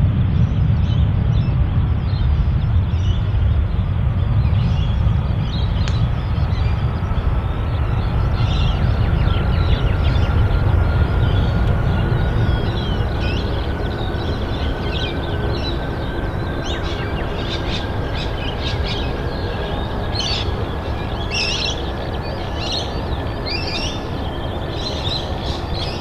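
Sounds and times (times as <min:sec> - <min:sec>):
faint rising jet whine: 0:00.0 - 0:26.0
jet engines rumbling: 0:00.0 - 0:26.0.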